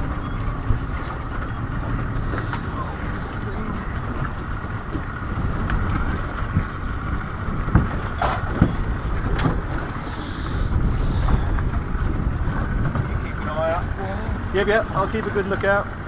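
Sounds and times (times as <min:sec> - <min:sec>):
choppy water against hull: 0:00.0 - 0:16.0
wind buffeting microphone: 0:00.0 - 0:16.0.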